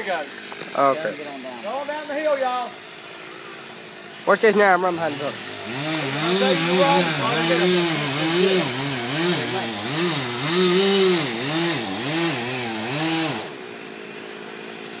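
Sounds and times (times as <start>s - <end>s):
chainsaw cutting tree trunk: 0.0s - 15.0s.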